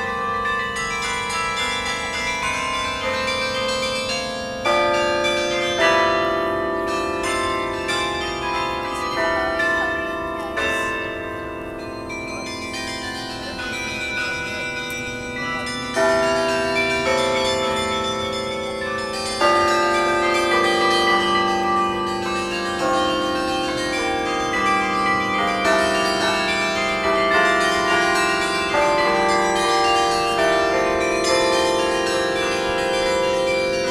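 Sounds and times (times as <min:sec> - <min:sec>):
carillon bells playing: 0:00.0 - 0:33.9.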